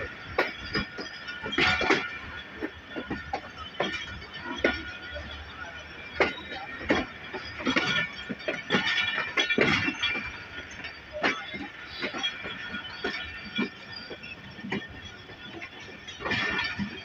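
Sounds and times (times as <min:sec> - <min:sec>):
faint high wheel squeal: 0:00.0 - 0:17.0
low train running rumble: 0:00.0 - 0:17.0
train wheels clacking over rail joints: 0:00.0 - 0:17.0.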